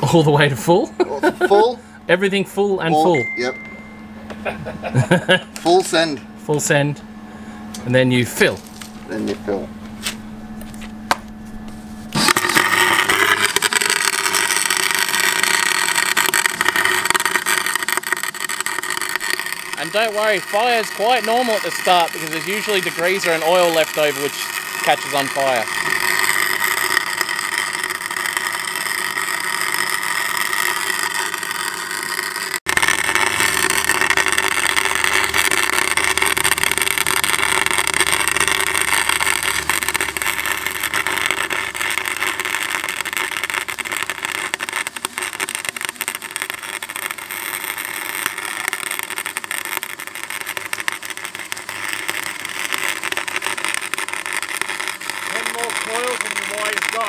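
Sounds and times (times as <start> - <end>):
welder arc crackling: 0.0 - 7.0, 7.7 - 57.0.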